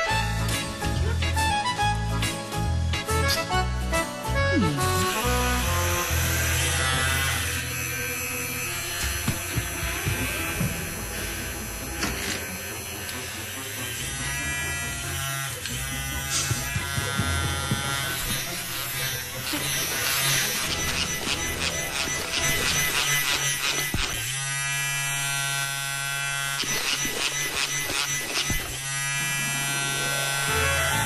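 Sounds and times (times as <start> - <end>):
small electric motor buzzing: 4.8 - 31.0.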